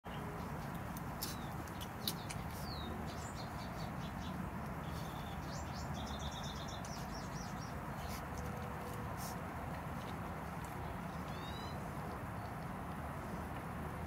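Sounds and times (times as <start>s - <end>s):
small birds chirping: 0.1s - 13.6s.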